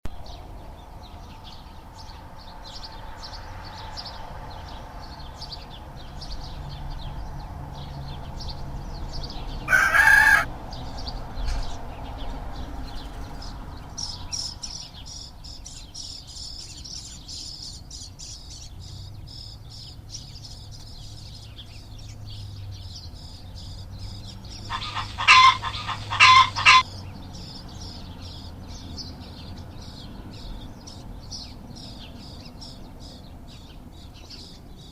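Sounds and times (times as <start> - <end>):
loud bird calls: 0.2 - 34.9.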